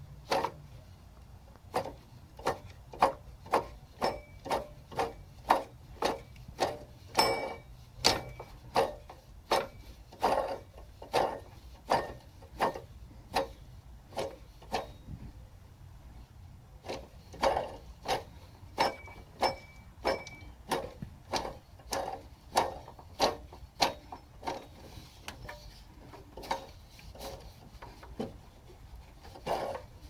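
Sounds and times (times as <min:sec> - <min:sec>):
belt tensioner creaking and clicking: 0:00.0 - 0:15.4, 0:16.8 - 0:30.0.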